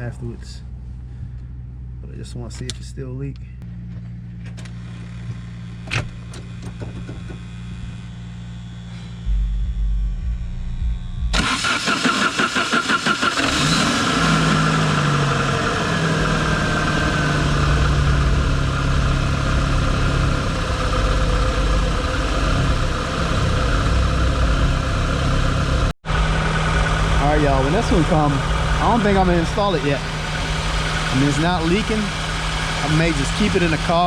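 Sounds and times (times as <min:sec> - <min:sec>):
car engine cranking and idling: 0:00.0 - 0:34.0.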